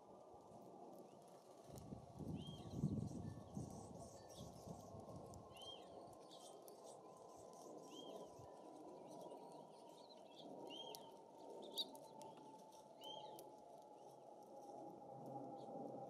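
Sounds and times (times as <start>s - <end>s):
small songbirds chirping: 0.9s - 16.0s.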